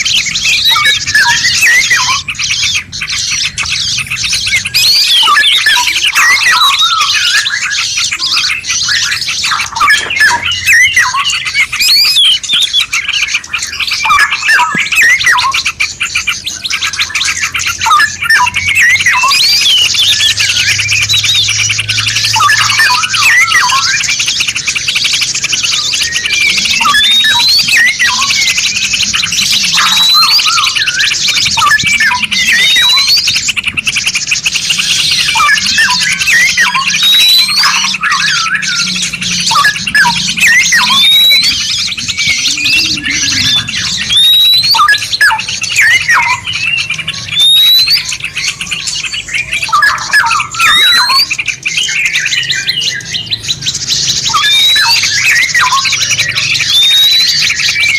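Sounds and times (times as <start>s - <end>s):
rising bird whistle: 0.0s - 53.4s, 54.1s - 57.9s
low-pitched bird chirps: 0.0s - 57.9s
rapid high bird trilling: 0.0s - 57.9s.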